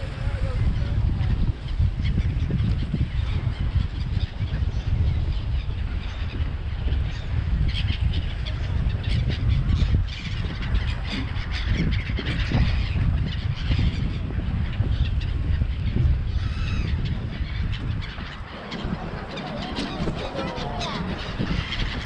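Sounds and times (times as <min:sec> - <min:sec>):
seagulls calling: 0:00.0 - 0:22.0.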